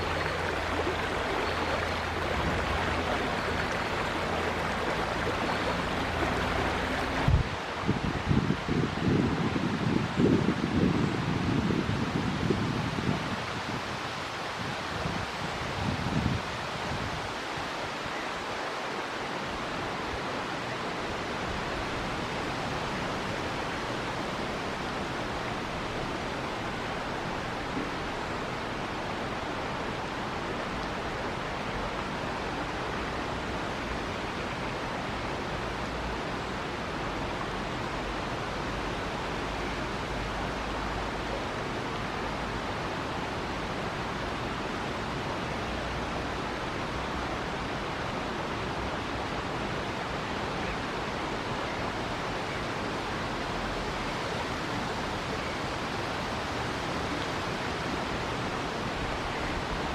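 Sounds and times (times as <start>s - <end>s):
river water rushing: 0.0s - 8.3s, 12.0s - 59.9s.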